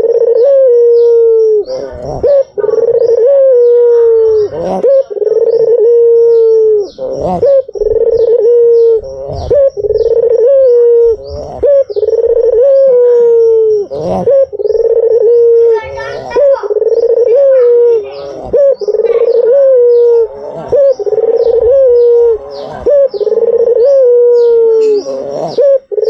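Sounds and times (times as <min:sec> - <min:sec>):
dove cooing loudly: 0:00.0 - 0:26.0
small bird chirping: 0:00.0 - 0:26.0.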